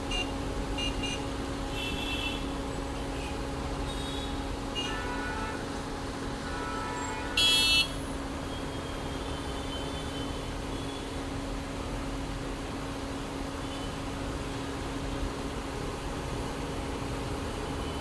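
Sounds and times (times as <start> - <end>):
traffic: 0.0 - 18.0.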